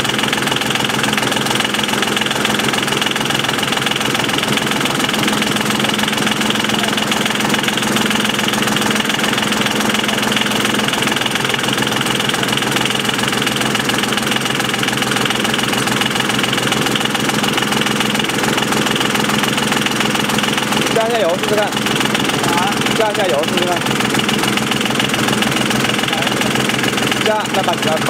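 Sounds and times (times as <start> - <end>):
small diesel engine idling: 0.0 - 28.0.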